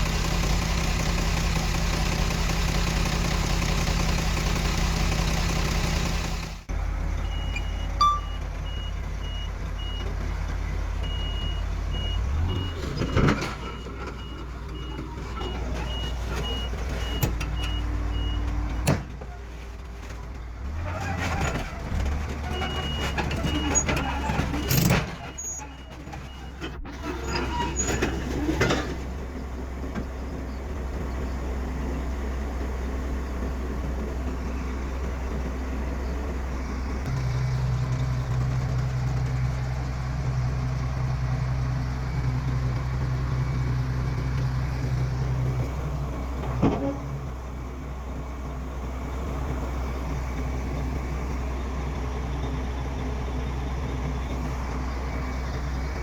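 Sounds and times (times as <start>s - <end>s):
heavy machinery diesel engine rumble: 0.0s - 56.0s.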